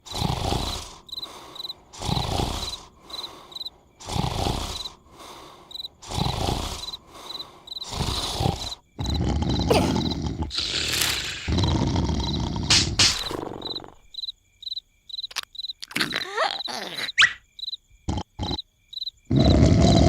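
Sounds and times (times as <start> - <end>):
cartoon snoring: 0.0 - 14.1, 15.8 - 17.4, 18.1 - 18.6, 19.3 - 20.0.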